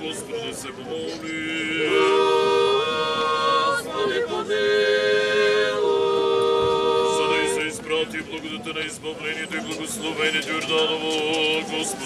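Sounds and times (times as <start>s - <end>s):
voices chanting in harmony: 0.0s - 12.0s.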